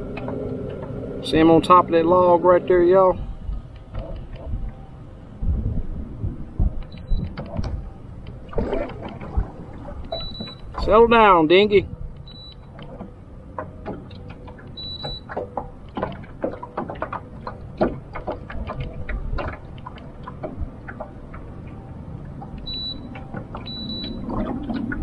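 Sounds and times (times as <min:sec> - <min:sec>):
waves slapping metal hull: 0:00.0 - 0:25.0
wind rumble: 0:00.0 - 0:25.0.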